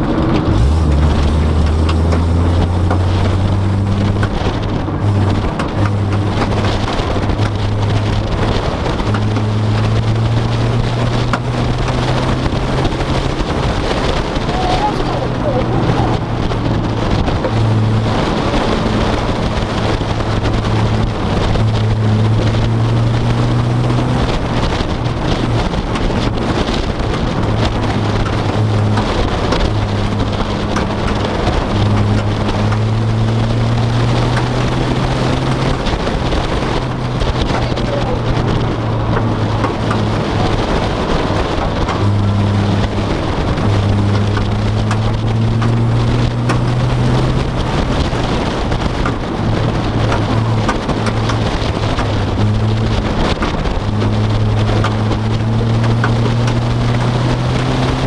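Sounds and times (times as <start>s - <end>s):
low engine drone: 0.0s - 58.0s
road and wind noise: 0.0s - 58.0s.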